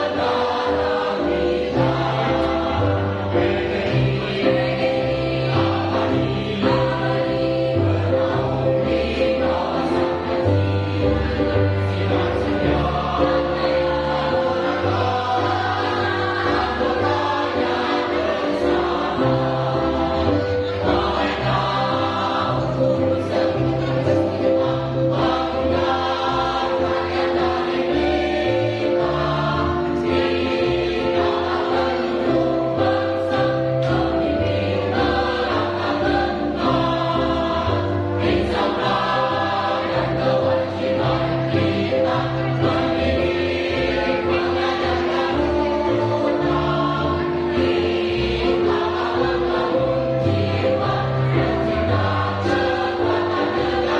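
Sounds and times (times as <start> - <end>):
choir singing in parts: 0.0 - 53.9.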